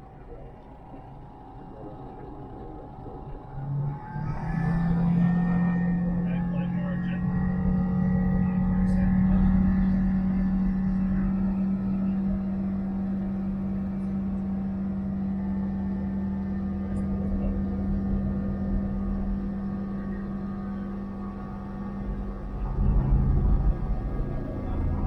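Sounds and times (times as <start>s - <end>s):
light aircraft engine and propeller: 0.0s - 25.0s.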